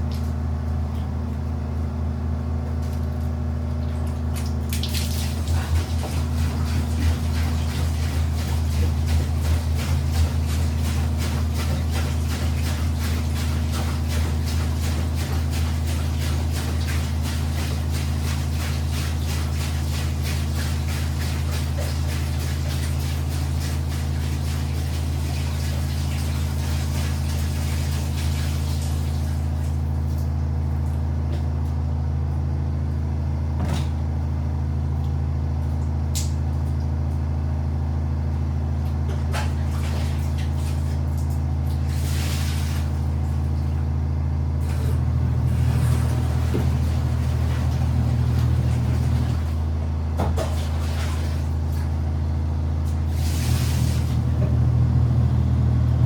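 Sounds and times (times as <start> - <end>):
washing machine motor hum: 0.0 - 56.0
water churning and sloshing: 2.7 - 31.8, 38.5 - 54.6.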